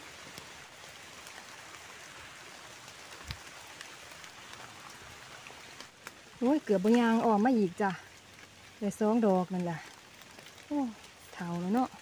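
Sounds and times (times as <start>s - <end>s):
light rain on leaves: 0.0s - 12.0s.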